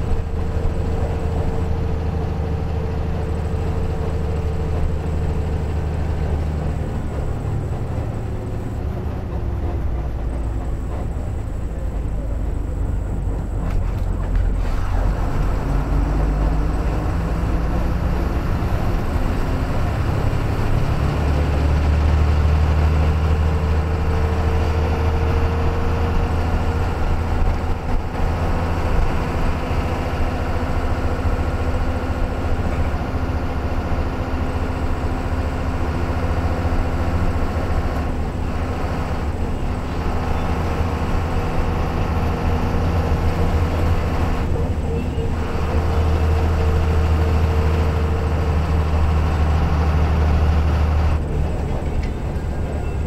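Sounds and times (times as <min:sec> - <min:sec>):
vehicle engine and road drone: 0:00.0 - 0:53.0.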